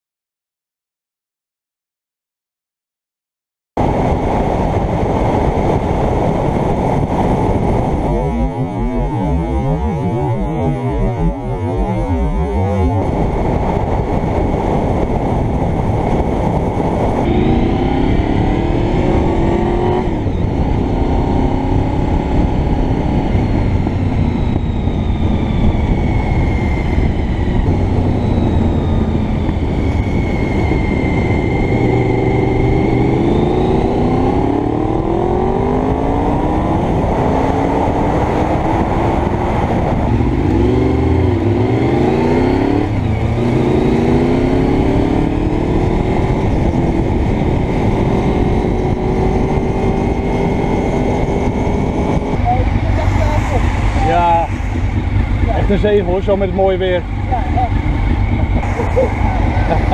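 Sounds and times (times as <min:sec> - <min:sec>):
wind rush on helmet: 0:03.8 - 0:10.0, 0:11.6 - 0:59.9
motorcycle engine shifting gears: 0:03.9 - 0:59.9.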